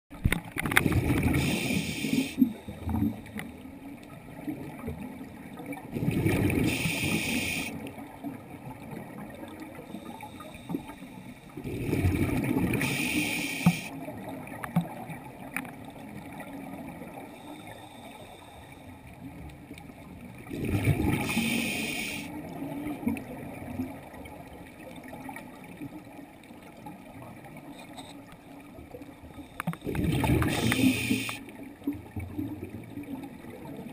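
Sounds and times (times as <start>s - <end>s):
muffled water rushing: 0.1s - 33.9s.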